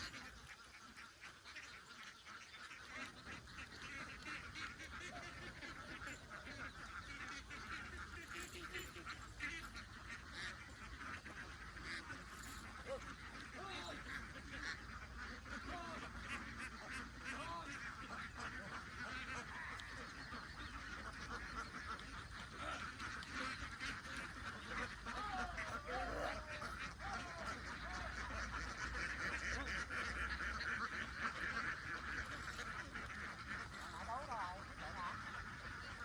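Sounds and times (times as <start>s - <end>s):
ducks quacking: 0.0s - 36.0s.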